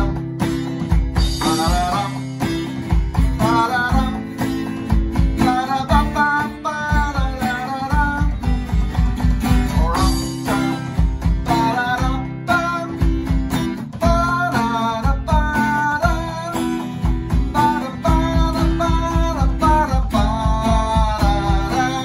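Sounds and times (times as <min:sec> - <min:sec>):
electronic drum beat: 0:00.0 - 0:22.0
man singing: 0:00.0 - 0:22.0
strummed acoustic guitar: 0:00.0 - 0:22.0.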